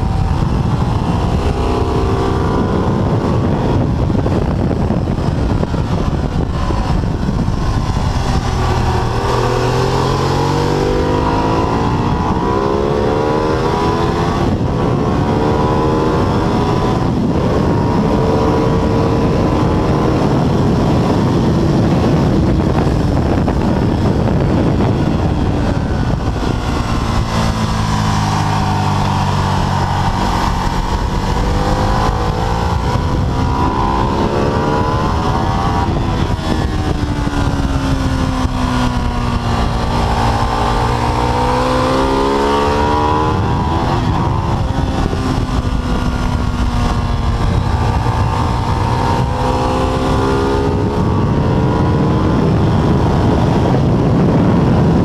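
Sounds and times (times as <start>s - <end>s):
motorcycle engine revving through gears: 0.0s - 55.0s
wind rushing: 0.0s - 55.0s.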